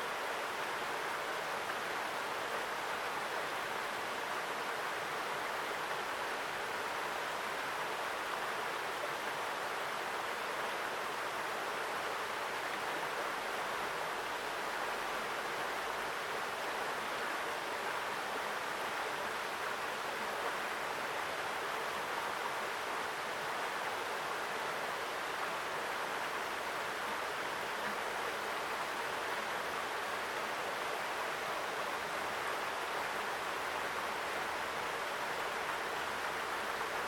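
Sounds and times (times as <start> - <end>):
stream rushing over rocks: 0.0 - 37.0.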